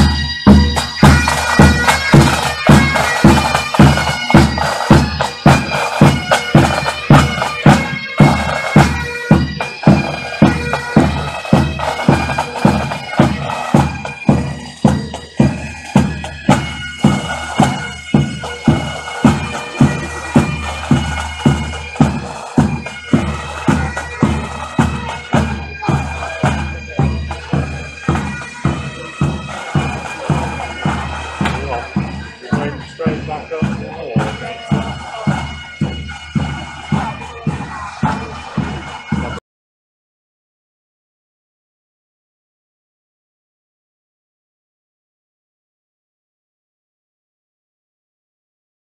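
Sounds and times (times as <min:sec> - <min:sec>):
bagpipes playing a march: 0:00.0 - 0:39.4
drums beating: 0:00.0 - 0:39.4.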